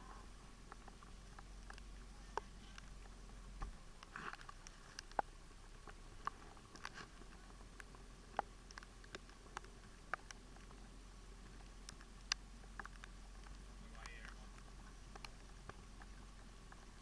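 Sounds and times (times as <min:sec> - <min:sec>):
low steady hiss: 0:00.0 - 0:17.0
faint clicks and taps: 0:00.6 - 0:17.0.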